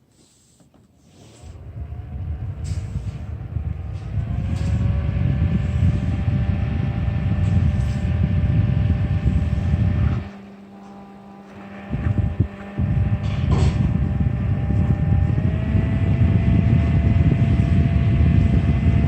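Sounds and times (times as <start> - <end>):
faint motor whine: 0.0 - 19.0
fan airflow rumbling on microphone: 0.0 - 19.0.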